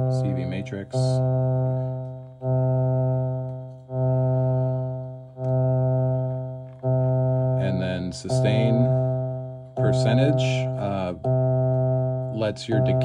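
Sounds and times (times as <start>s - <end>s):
low buzzy synth note: 0.0s - 13.0s.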